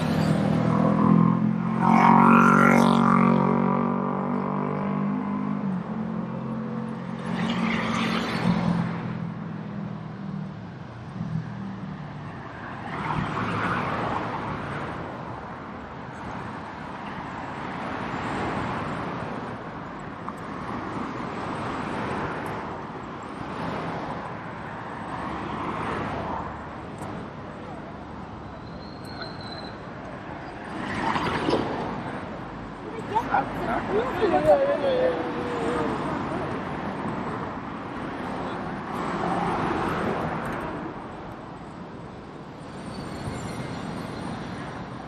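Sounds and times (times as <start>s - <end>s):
cars passing: 0.0s - 45.0s.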